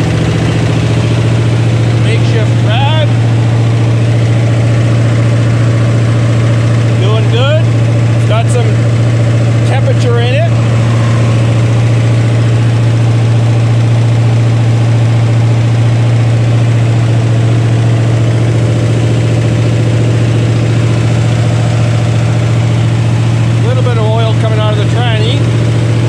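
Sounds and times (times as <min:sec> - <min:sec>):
engine running through straight pipes: 0:00.0 - 0:26.0.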